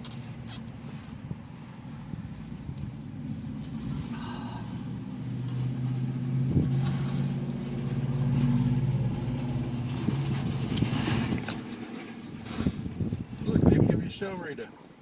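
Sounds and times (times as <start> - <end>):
vehicle engine humming: 0.0 - 14.2.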